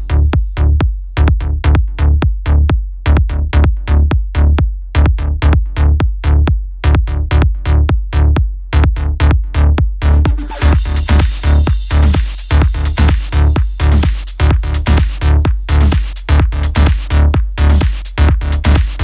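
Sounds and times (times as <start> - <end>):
electronic music with fast beat: 0.0 - 19.0.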